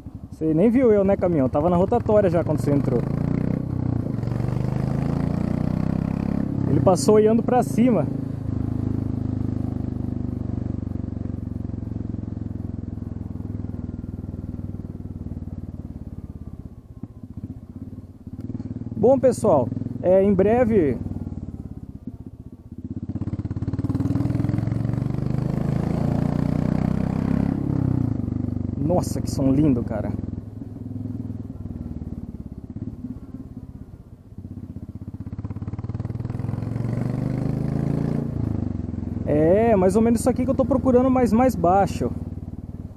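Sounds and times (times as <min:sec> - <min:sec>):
motorcycle engine exhaust pulsing: 0:00.0 - 0:42.9.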